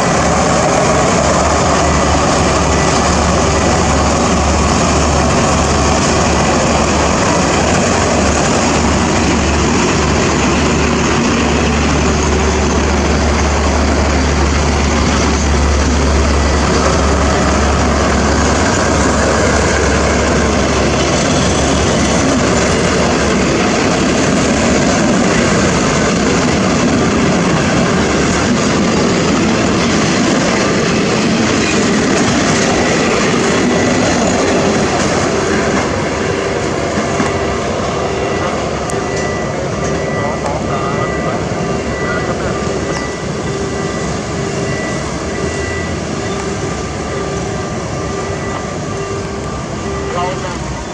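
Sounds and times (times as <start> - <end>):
low train engine drone: 0.0 - 50.9
train cars rolling on rails: 0.0 - 50.9.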